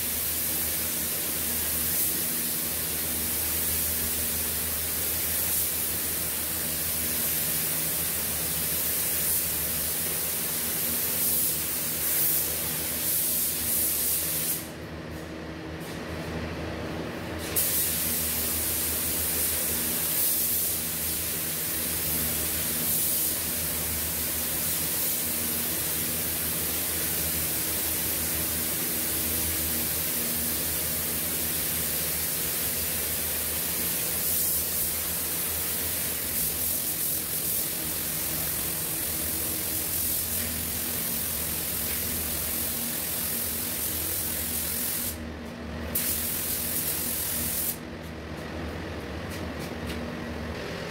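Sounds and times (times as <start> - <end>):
spray gun hissing: 0.0 - 14.7, 17.4 - 45.2, 45.9 - 47.8.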